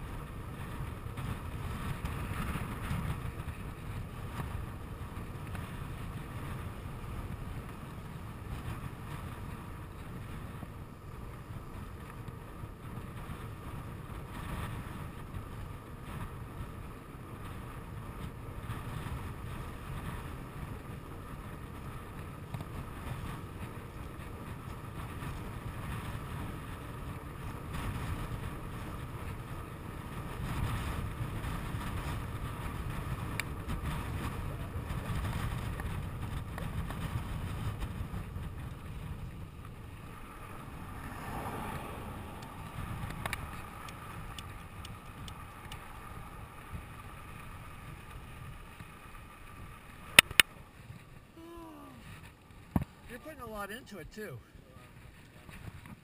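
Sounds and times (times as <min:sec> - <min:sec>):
wind buffeting microphone: 0:00.0 - 0:53.7
bicycle rolling on asphalt: 0:00.0 - 0:56.0.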